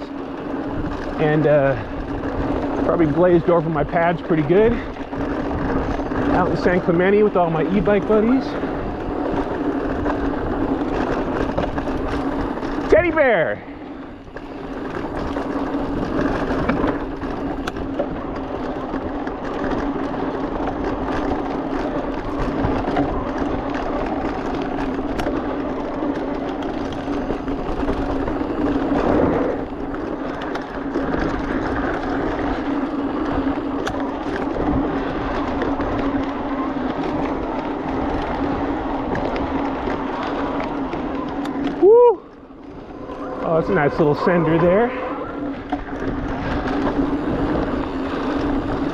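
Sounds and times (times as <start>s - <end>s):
bike rattles and knocks: 0.0s - 48.9s
tyres rolling on dirt trail: 0.0s - 48.9s
wind on camera microphone: 0.0s - 48.9s.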